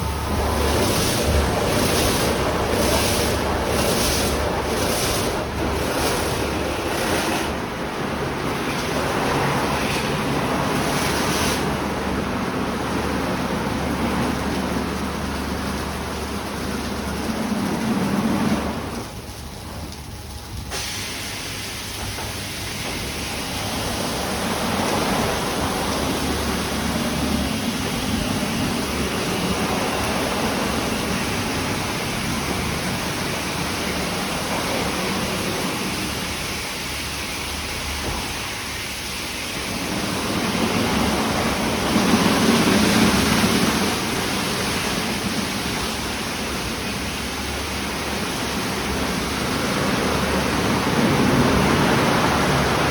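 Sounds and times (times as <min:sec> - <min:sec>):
car wash water jets spraying: 0:00.0 - 0:52.9.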